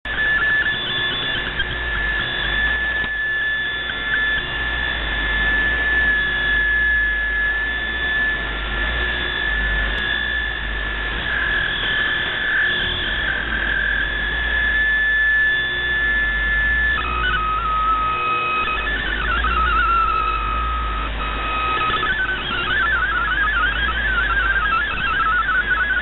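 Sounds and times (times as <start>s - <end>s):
high whistling tone: 0.1s - 26.0s
radio static hiss: 0.1s - 26.0s.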